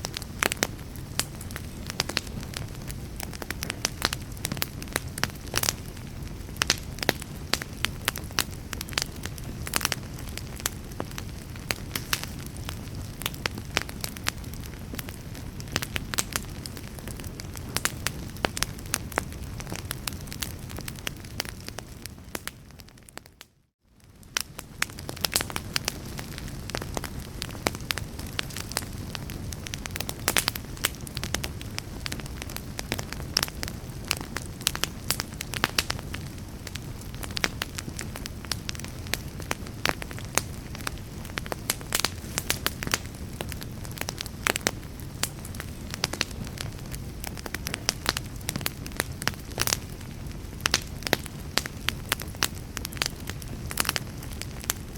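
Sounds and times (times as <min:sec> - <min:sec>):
fireplace fire crackling: 0:00.0 - 0:54.9.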